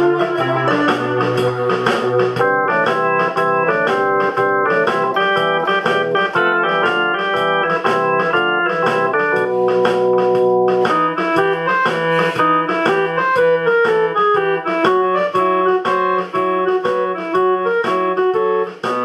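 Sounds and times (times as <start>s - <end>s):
organ-like keyboard music: 0.0s - 19.0s.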